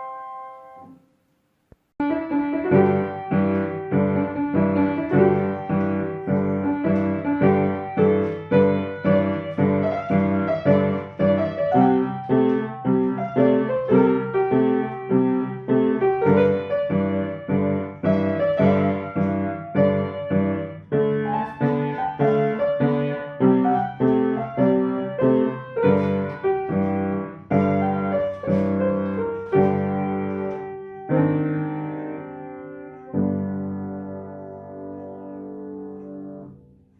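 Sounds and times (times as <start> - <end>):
solo piano: 0.0 - 36.9.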